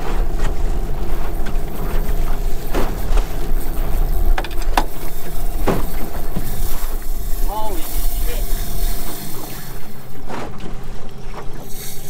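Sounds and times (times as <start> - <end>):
outboard motor running: 0.0 - 12.0
wind and water rumble: 0.0 - 12.0.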